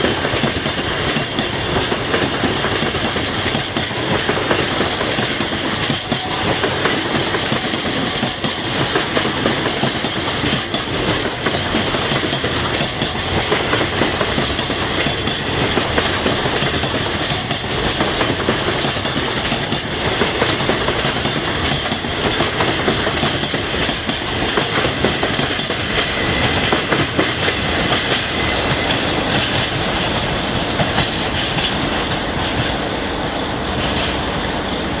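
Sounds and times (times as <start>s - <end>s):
train wheels clattering on rails: 0.0s - 35.0s.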